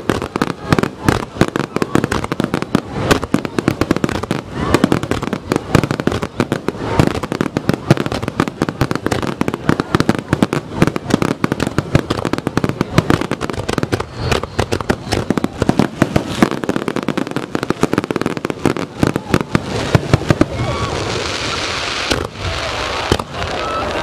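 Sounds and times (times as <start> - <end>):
fireworks bangs: 0.0 - 24.0
fireworks crackling hiss: 0.0 - 24.0.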